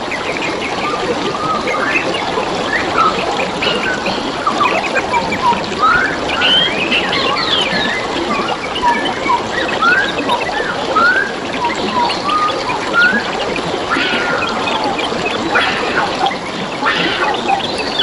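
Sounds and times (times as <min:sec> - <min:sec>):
birds chirping: 0:00.0 - 0:18.0
trickle of running water: 0:00.0 - 0:18.0.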